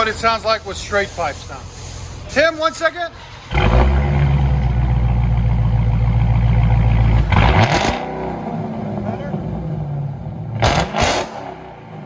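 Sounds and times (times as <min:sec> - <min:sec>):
loud car engine idling: 0:00.0 - 0:12.0.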